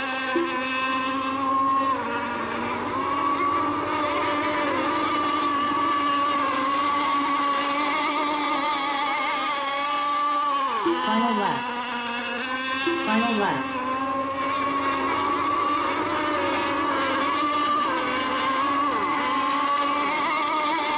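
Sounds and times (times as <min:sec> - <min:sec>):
rc boat motors whining: 0:00.0 - 0:20.9.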